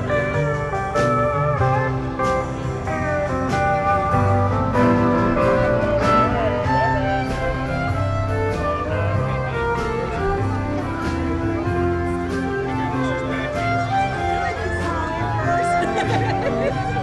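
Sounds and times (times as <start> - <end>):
country band music: 0.0 - 17.0.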